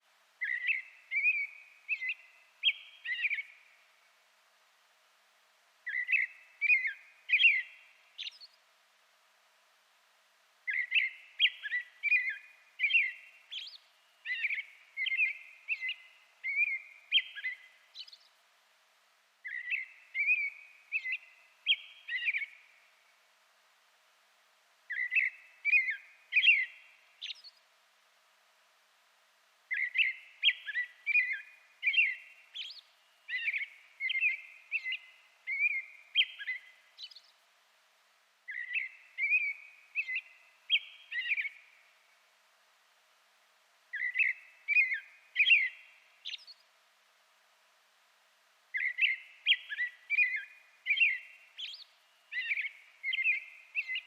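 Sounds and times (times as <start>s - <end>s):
songbird singing: 0.0s - 4.3s, 5.7s - 8.9s, 10.4s - 18.6s, 19.3s - 28.7s, 29.4s - 42.7s, 43.8s - 54.0s.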